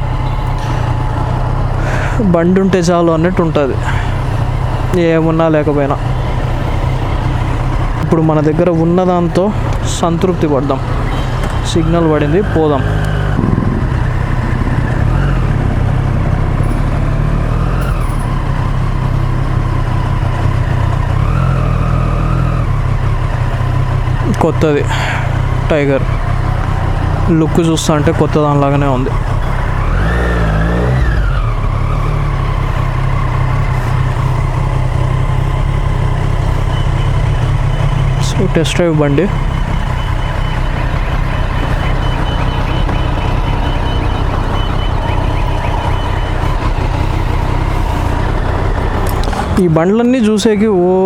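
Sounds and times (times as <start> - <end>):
motorcycle engine running: 0.0 - 51.0
road and wind noise: 0.0 - 51.0.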